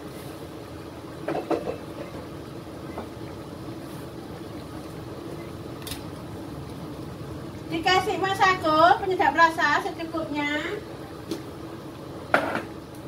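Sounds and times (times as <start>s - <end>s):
stew cooking hiss and hum: 0.0s - 13.0s.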